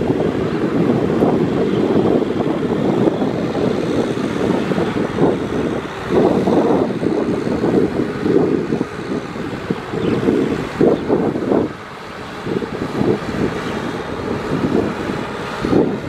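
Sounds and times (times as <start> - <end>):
tractor diesel engine under load: 0.0 - 16.0
wind buffeting microphone: 0.0 - 16.0.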